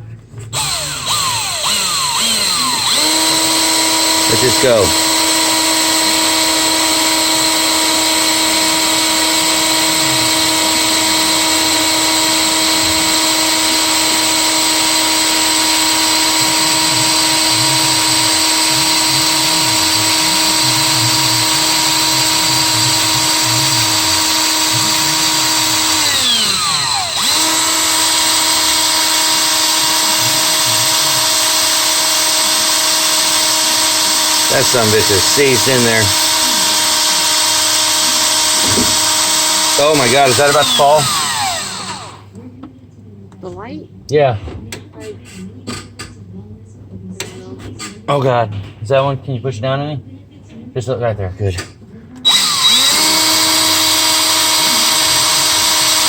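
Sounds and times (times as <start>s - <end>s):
power drill whining: 0.5s - 42.3s, 52.2s - 56.0s.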